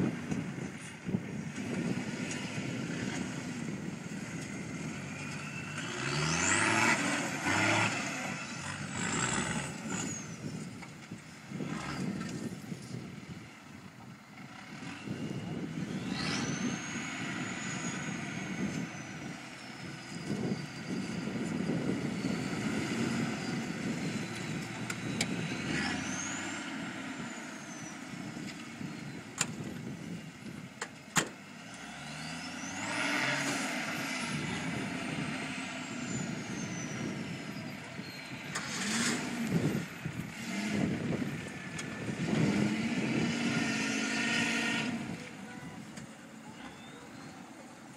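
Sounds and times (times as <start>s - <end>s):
off-road engines revving: 0.0s - 47.9s.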